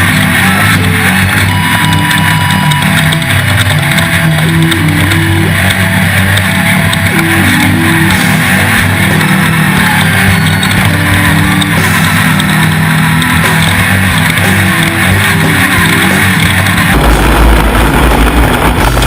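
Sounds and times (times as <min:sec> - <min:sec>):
race vehicle engines roaring: 0:00.0 - 0:19.0
rock music: 0:00.0 - 0:19.0.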